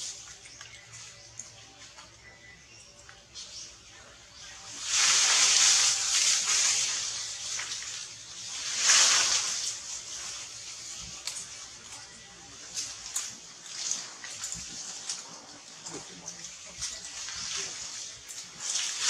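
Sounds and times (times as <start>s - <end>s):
leaves rustling in trees: 0.0s - 19.0s.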